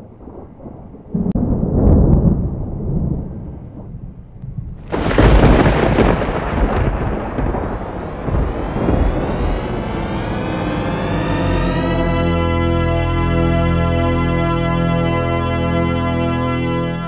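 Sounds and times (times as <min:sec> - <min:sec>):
loud low rumbling: 0:00.0 - 0:17.0.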